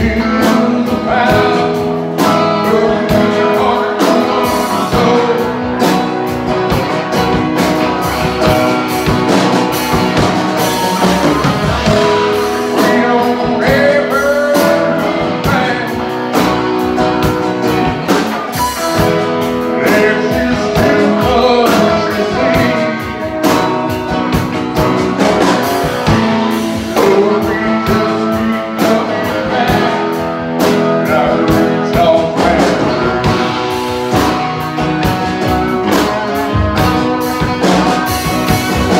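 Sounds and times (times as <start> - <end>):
electric guitar lead: 0.0 - 38.9
steady drum beat: 0.0 - 38.9
strummed acoustic guitar: 0.0 - 38.9.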